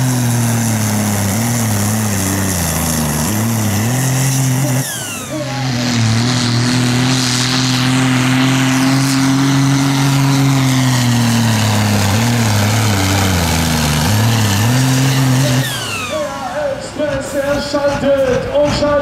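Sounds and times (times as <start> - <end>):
tractor diesel engine lugging: 0.0 - 19.0.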